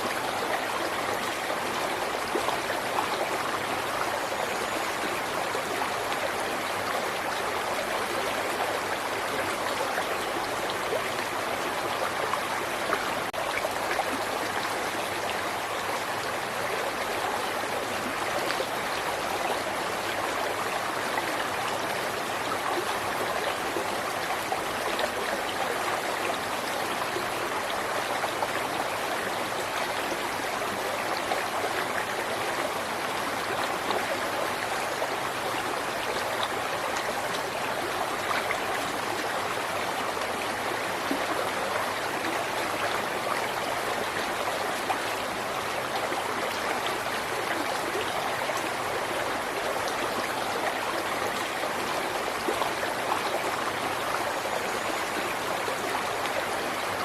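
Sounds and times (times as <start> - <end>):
river water babbling over rocks: 0.0 - 57.0.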